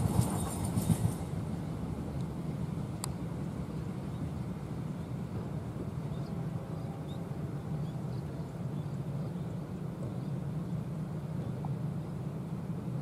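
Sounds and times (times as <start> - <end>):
distant trains rumbling: 0.0 - 13.0.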